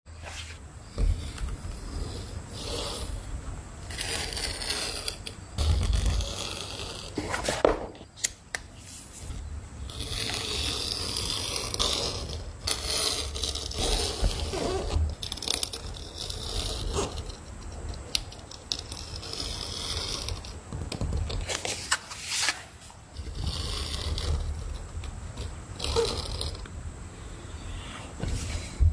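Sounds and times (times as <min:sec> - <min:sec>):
tools scraping and rubbing material: 0:00.1 - 0:28.9.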